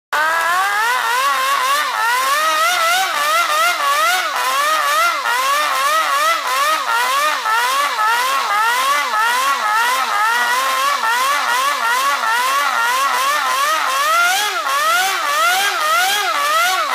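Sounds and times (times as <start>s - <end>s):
model engine revving: 0.2s - 16.9s.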